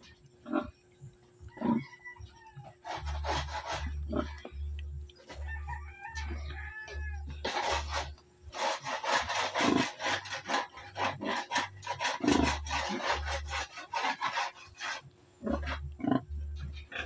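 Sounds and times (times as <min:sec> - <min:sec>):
rubbing and scraping: 0:02.6 - 0:17.0.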